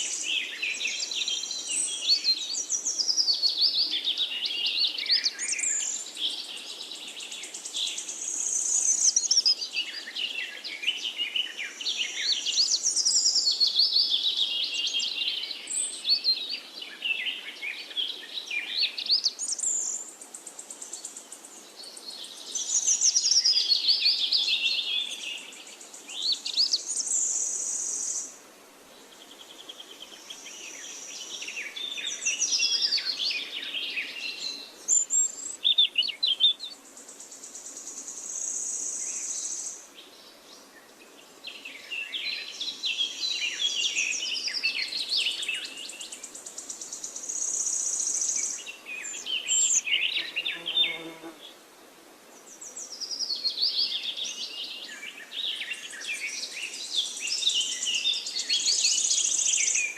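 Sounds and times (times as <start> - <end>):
faint steady hiss: 0.0 - 59.9
forest birds singing: 0.0 - 59.9.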